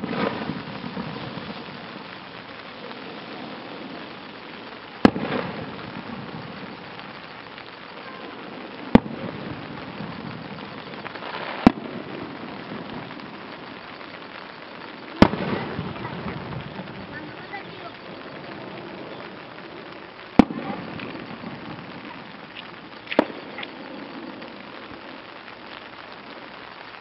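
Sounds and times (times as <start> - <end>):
firework bangs: 0.0 - 27.0
firework crackling: 0.0 - 27.0
steady background hiss: 0.0 - 27.0.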